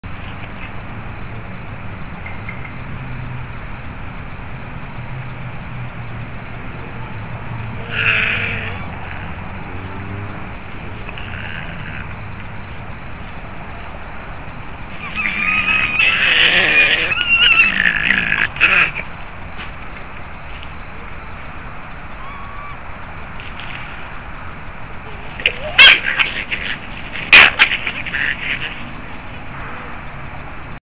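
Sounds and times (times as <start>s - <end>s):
crickets chirring: 0.0s - 30.8s.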